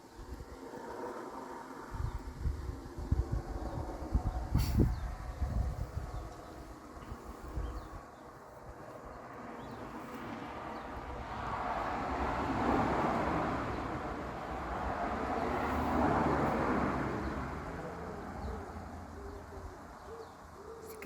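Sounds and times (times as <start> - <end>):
passing vehicle rushing: 0.1 - 20.5.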